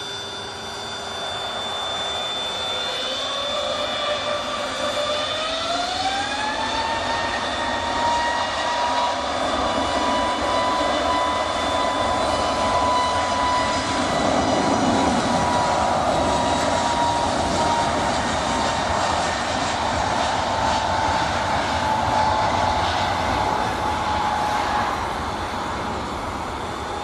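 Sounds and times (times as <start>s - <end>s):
jet engines roaring with whine: 0.0s - 27.0s.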